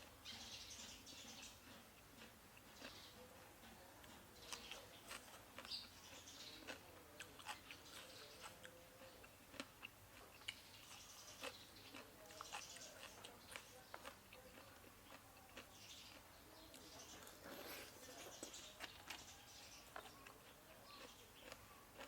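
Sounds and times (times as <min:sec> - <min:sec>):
chewing food: 0:00.0 - 0:22.0.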